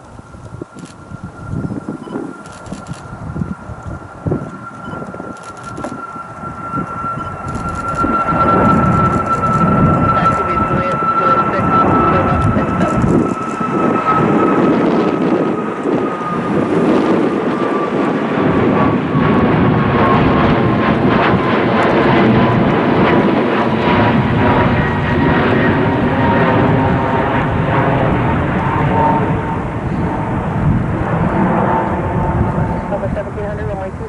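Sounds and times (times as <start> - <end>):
deep rumble: 0.0 - 34.0
jet engines whining: 0.0 - 34.0.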